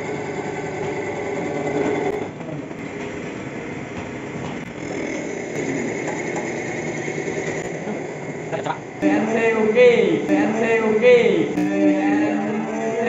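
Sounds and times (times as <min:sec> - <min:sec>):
lathe running with whine: 0:00.0 - 0:13.0.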